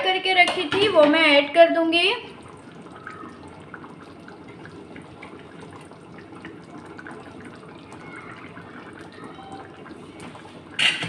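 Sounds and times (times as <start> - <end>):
curry simmering and bubbling: 0.1 - 11.0.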